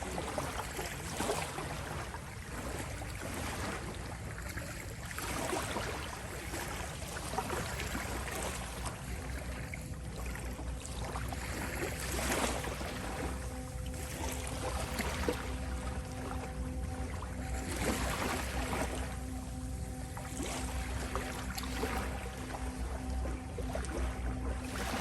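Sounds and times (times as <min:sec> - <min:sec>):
faint steady tone: 0:00.0 - 0:25.0
ocean waves lapping: 0:00.0 - 0:25.0.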